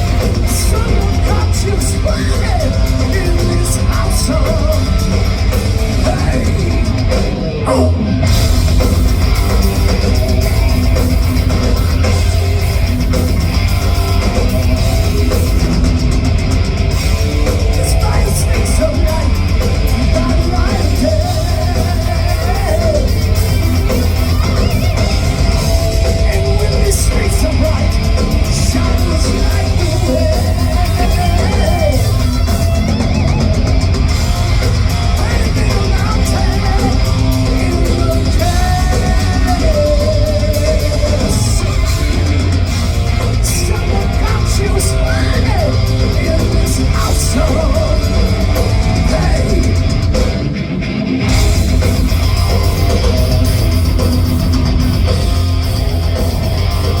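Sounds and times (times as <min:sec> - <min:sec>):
heavy rock band playing: 0:00.0 - 0:57.0
singer singing and yelling: 0:00.0 - 0:57.0.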